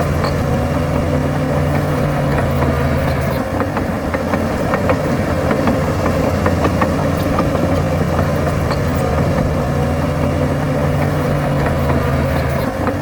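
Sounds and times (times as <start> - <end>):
heavy diesel engine running: 0.0 - 13.0
light clanks: 0.0 - 13.0.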